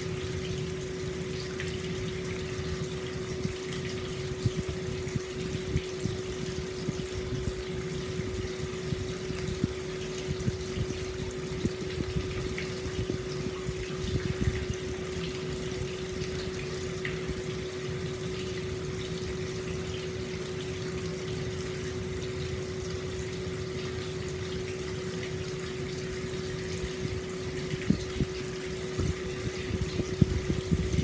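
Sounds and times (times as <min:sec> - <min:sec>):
steady hum: 0:00.0 - 0:31.0
water pouring into a bath: 0:00.1 - 0:31.0.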